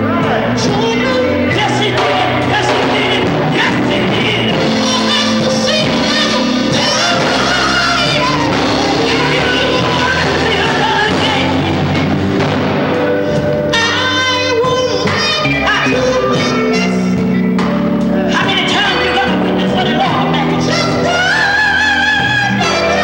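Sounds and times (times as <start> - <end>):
gospel group singing: 0.0 - 17.2, 18.1 - 23.0
electric guitars: 0.0 - 23.0.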